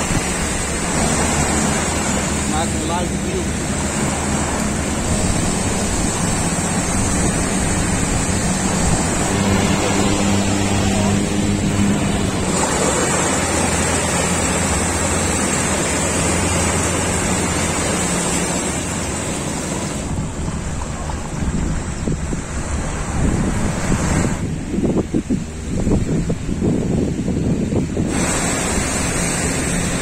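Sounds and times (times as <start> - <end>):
boat engine drone: 0.0 - 30.0
small waves washing onto beach: 0.0 - 30.0
wind buffeting microphone: 0.0 - 30.0.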